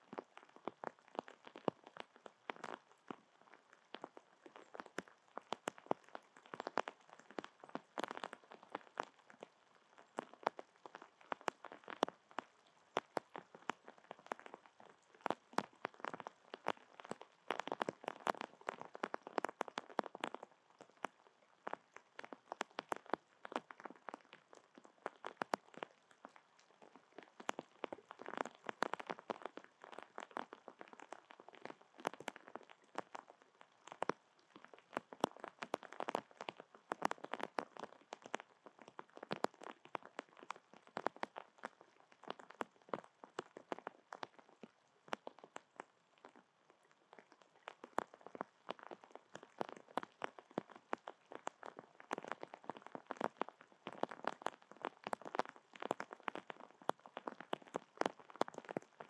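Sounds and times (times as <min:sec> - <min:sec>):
rain dripping close: 0:00.0 - 0:59.0.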